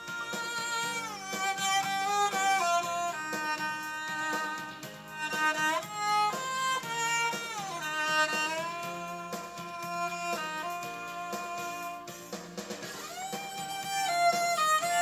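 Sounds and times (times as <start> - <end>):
muted violin melody: 0.0 - 15.0.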